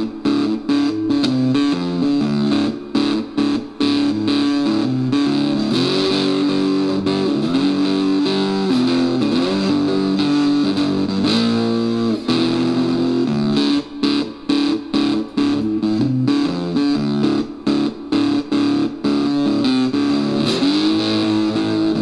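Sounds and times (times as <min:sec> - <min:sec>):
electric guitar riff with gliding notes: 0:00.0 - 0:22.0.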